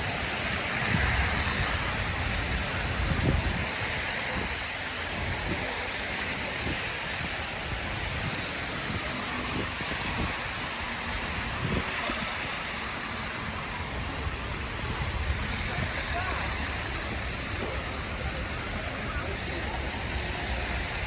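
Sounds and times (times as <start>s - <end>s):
city street noise hiss: 0.0s - 21.0s
wind gusting on microphone: 0.0s - 21.0s.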